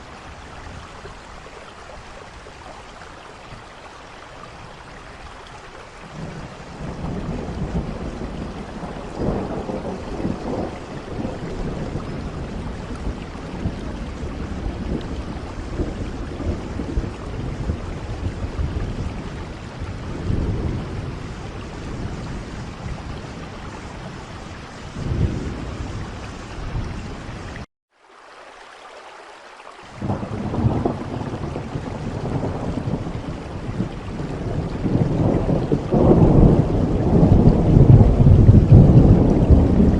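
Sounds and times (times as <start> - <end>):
steady rain falling: 0.0 - 39.9
low rolls of thunder: 4.5 - 27.7, 29.9 - 39.9.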